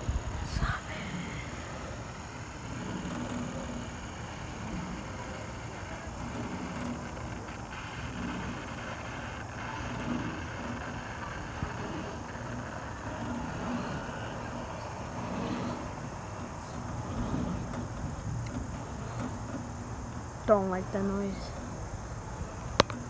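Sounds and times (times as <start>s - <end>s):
chairlift rushing ride noise: 0.0s - 23.0s
wind buffeting microphone: 0.0s - 23.0s.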